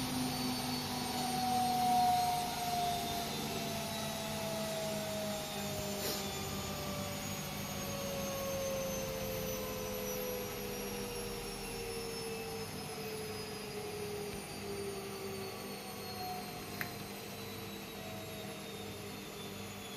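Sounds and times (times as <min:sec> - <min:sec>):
washing machine spin slowing: 0:00.0 - 0:19.9.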